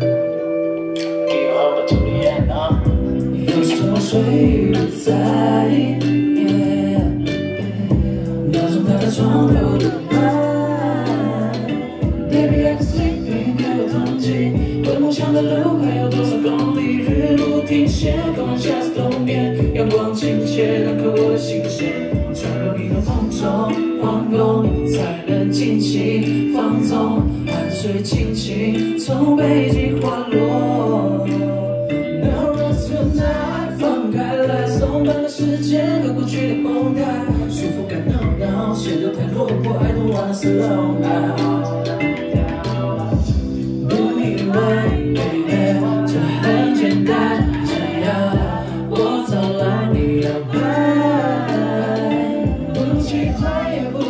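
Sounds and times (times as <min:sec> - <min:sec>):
amplified music with low notes: 0:00.0 - 0:54.0
man singing into microphone: 0:01.0 - 0:54.0.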